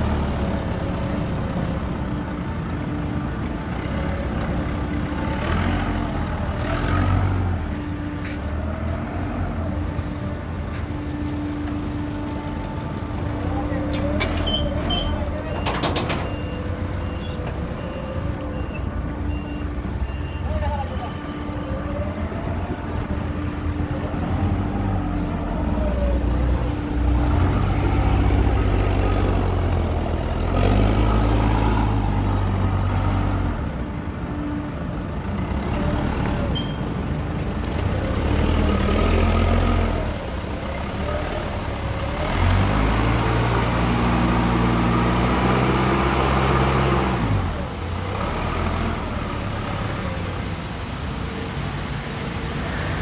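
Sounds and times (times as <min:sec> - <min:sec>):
forklift engine revving: 0:00.0 - 0:20.4, 0:21.2 - 0:51.2.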